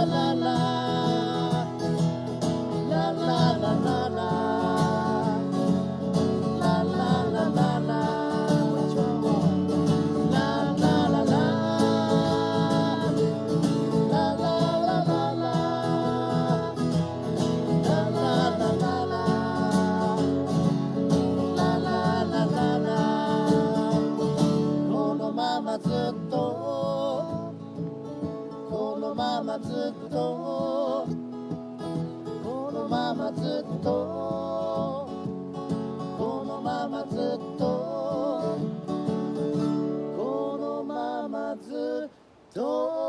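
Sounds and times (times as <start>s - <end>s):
acoustic guitar strumming: 0.0s - 40.4s.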